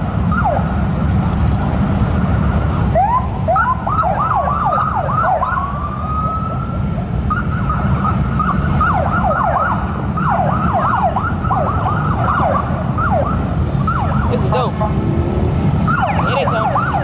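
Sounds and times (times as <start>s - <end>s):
sirens yelping: 0.0s - 17.0s
traffic rumble: 0.0s - 17.0s
siren wailing: 0.2s - 0.8s, 2.9s - 17.0s.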